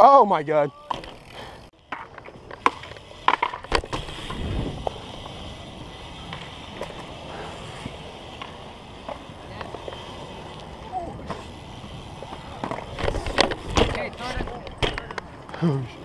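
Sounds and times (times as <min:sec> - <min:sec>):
tyres rolling on concrete: 0:00.0 - 0:16.0
bike knocks and rattles: 0:00.7 - 0:10.1, 0:11.0 - 0:15.6.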